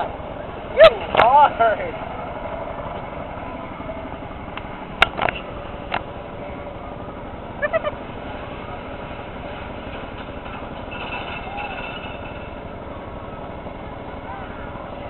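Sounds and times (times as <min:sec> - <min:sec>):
motorboat motor running: 0:00.0 - 0:15.0.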